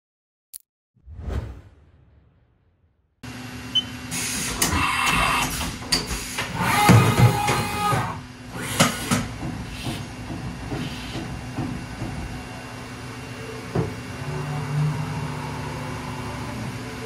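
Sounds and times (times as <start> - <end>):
machine mechanical hum: 3.2 - 17.0.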